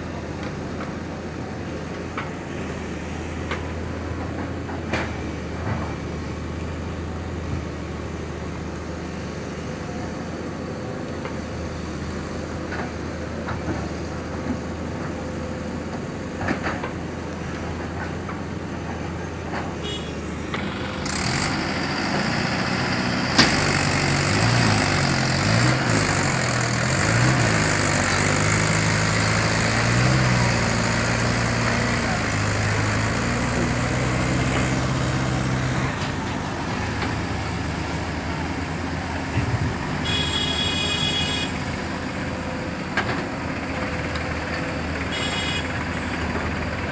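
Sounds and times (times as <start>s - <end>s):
backhoe and tractor engines working: 0.0s - 46.9s
excavator diesel engine: 0.0s - 46.9s.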